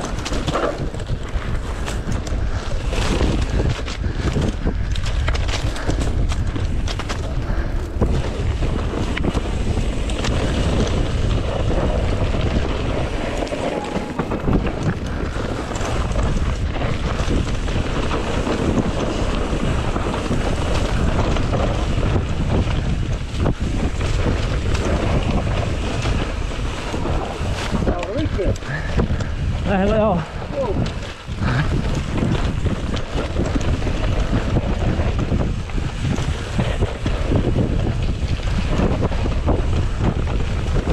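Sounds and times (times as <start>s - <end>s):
tyre noise on loose dirt: 0.0s - 40.9s
wind buffeting microphone: 0.0s - 40.9s.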